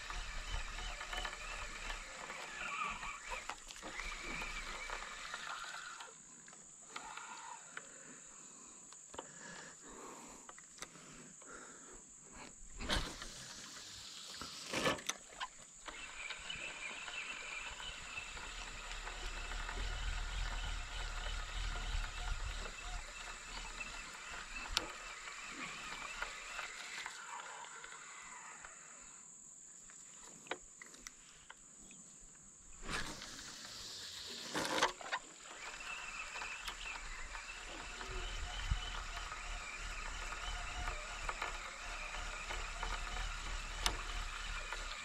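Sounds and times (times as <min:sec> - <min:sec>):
steady high-pitched whine: 0:00.0 - 0:29.8, 0:31.1 - 0:45.0.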